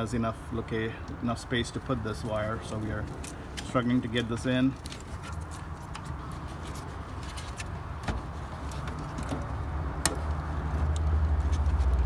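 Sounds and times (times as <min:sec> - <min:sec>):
wire handling clicks and rustles: 0:02.0 - 0:12.0.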